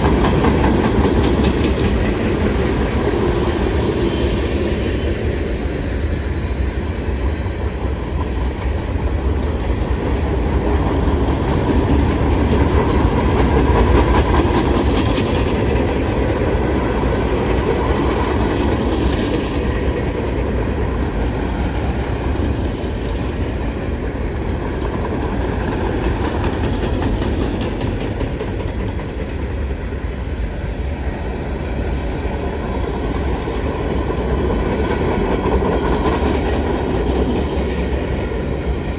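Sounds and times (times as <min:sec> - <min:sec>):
train cars rumbling past: 0:00.0 - 0:38.9.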